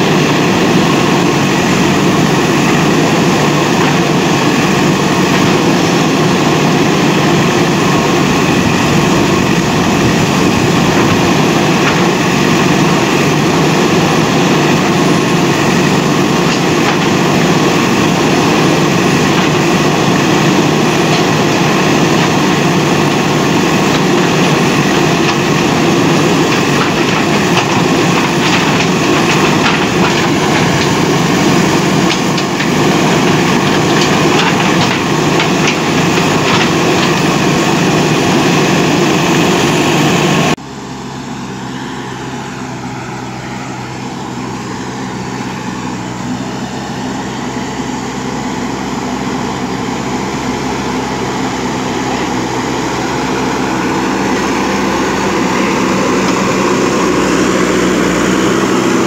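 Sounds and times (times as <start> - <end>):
backhoe loader pushing earth: 0.0 - 59.0
diesel engine working under load: 0.0 - 59.0.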